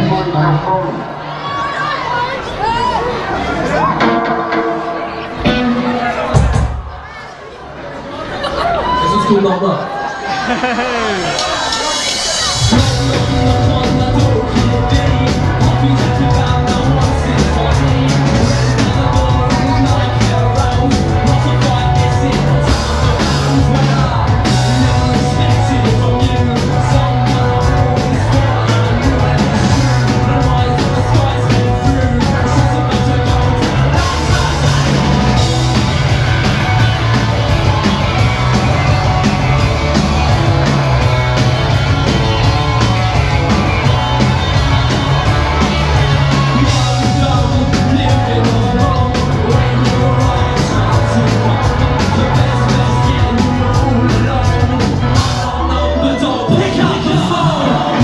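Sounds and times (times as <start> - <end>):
drums: 0.0 - 9.3, 10.3 - 58.0
electric guitars: 3.3 - 6.9, 10.2 - 58.0
bass guitar: 3.6 - 7.0, 10.6 - 58.0
person singing: 10.6 - 58.0.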